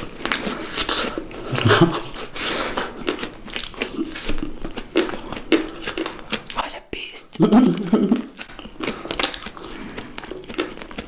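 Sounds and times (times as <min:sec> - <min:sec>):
chewing and crunching food: 0:00.0 - 0:11.0.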